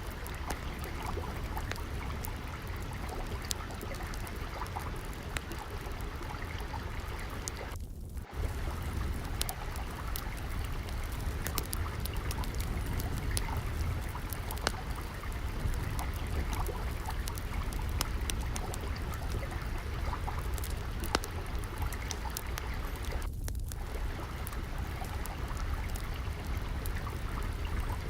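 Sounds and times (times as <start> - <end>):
water trickling: 0.0 - 28.0
wood fire crackling and popping: 0.0 - 28.0.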